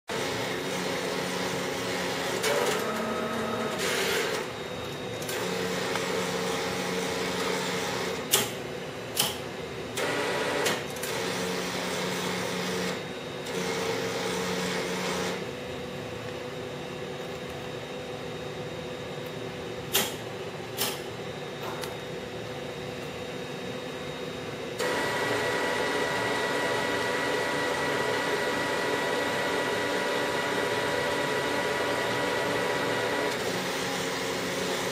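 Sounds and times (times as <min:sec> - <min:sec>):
printer motors whirring: 0:00.1 - 0:34.9.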